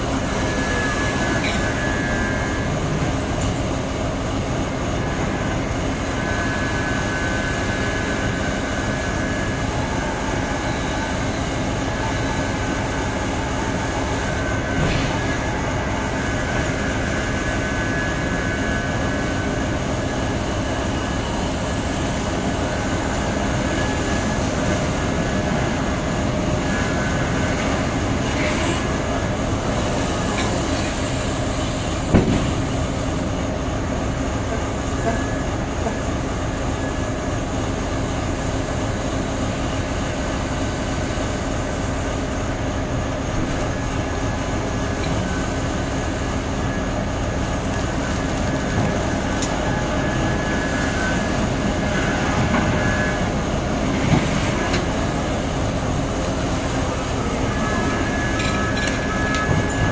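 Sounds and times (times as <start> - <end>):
heavy diesel engine drone: 0.0 - 59.9.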